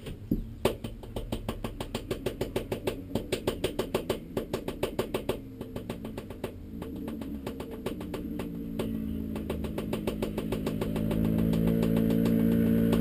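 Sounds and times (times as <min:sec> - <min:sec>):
engine firing and running unevenly: 0:01.7 - 0:13.0.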